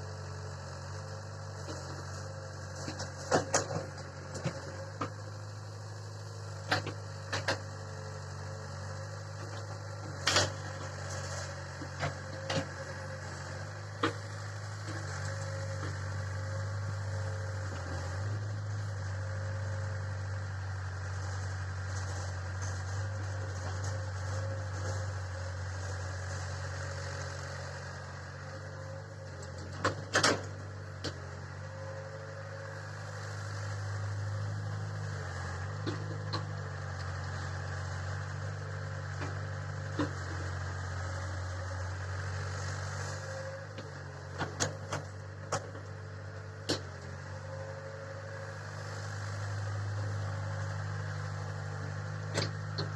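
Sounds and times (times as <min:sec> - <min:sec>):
heavy vehicle engine droning: 0:00.0 - 0:52.9.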